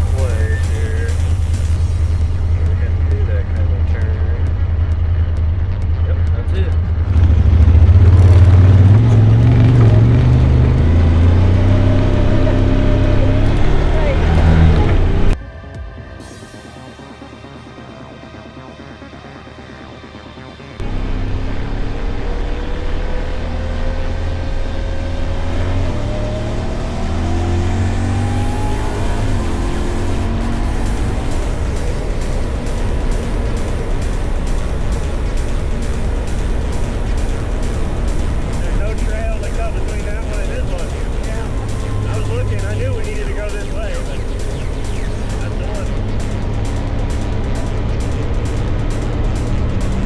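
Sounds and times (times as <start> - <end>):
low rumble: 0.0 - 19.2, 20.8 - 50.0
vehicle engine droning under load: 0.0 - 50.0.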